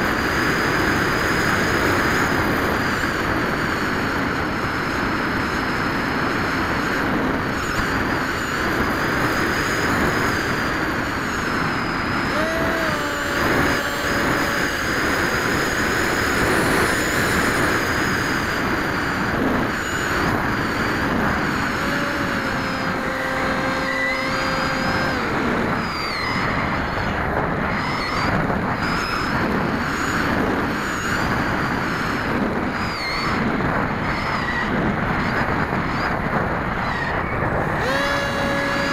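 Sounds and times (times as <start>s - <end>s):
electric motor whining: 0.0s - 33.5s, 37.4s - 38.9s
wind rush: 0.0s - 38.9s.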